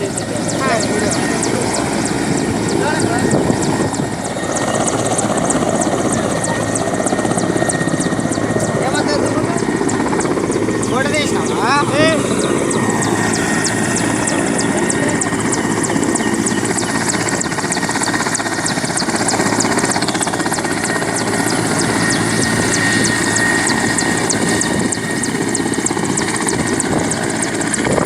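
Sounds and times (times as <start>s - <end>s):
helicopter rotor chop: 0.0s - 28.0s.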